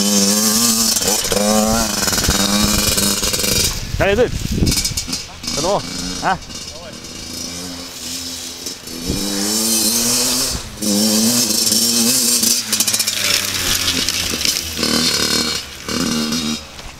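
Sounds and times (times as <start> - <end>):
motocross bike engine revving: 0.0 - 16.9.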